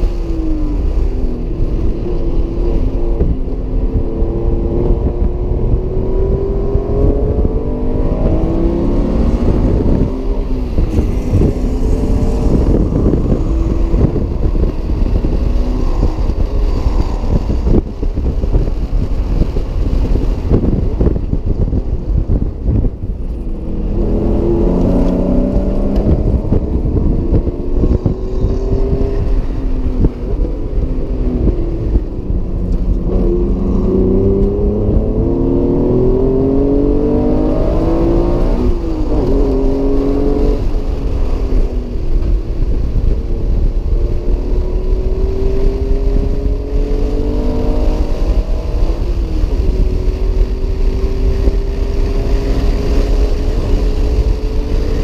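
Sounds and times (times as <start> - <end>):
heavy low rumble: 0.0 - 55.0
car engine revving in cabin: 0.2 - 55.0.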